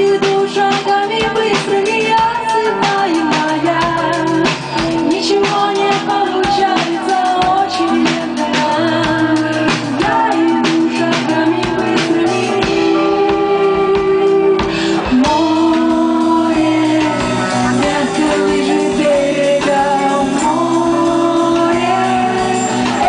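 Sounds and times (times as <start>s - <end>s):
live pop-rock band playing: 0.0s - 23.0s.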